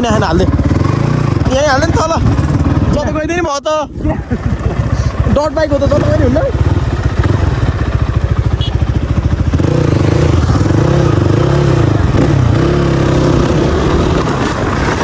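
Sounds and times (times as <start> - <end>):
dirt bike engine revving: 0.0 - 3.4, 4.1 - 15.0.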